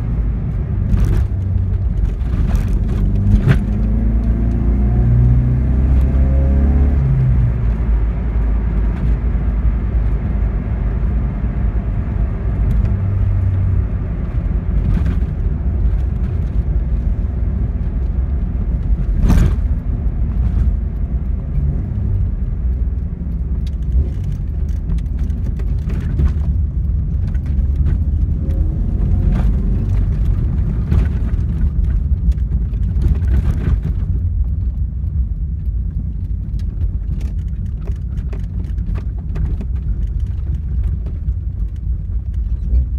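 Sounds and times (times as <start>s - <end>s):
car engine from inside cabin: 0.0s - 42.9s
road noise: 0.0s - 42.9s.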